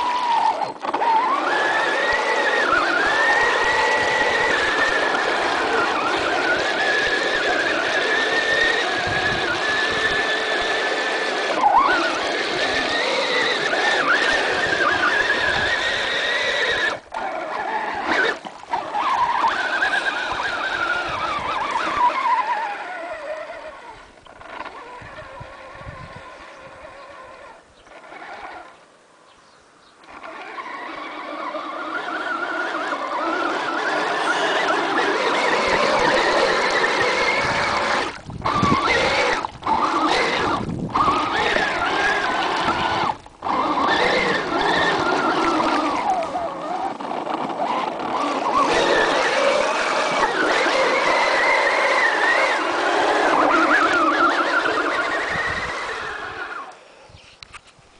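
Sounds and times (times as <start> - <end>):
electric motor and gears whining: 0.0 - 28.8, 30.0 - 57.8.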